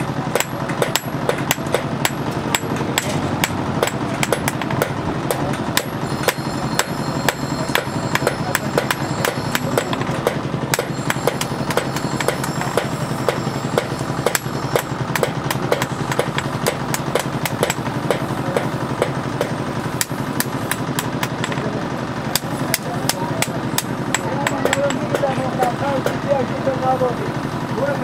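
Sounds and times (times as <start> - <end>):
hammer striking steel on anvil: 0.0 - 21.7, 22.3 - 26.3
machine running: 0.0 - 28.0.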